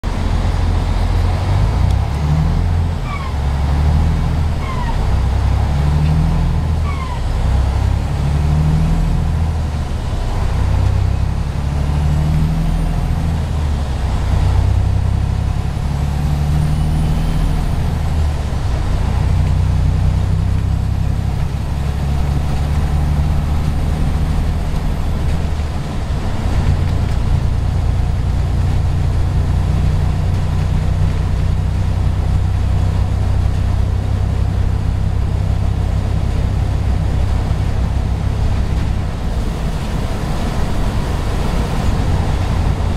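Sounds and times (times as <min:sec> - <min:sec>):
truck diesel engine accelerating: 0:00.0 - 0:42.9.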